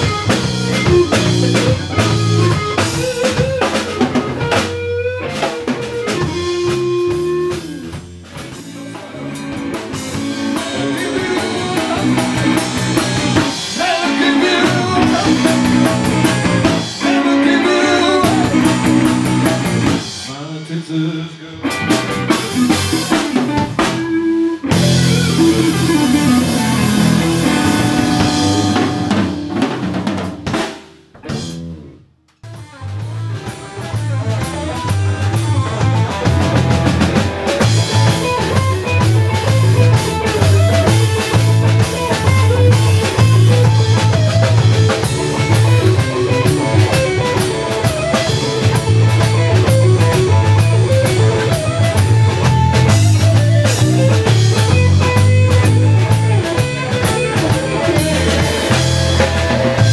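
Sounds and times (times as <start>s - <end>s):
drum rimshots: 0.0s - 20.4s, 21.6s - 59.9s
blues-rock band playing: 0.0s - 59.9s.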